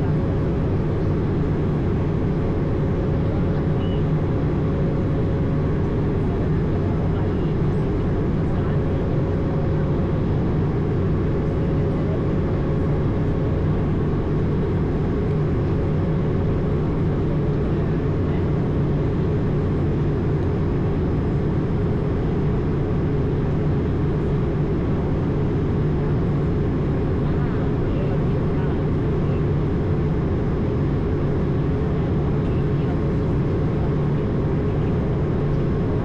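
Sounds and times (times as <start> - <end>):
aircraft cabin drone: 0.0 - 36.0.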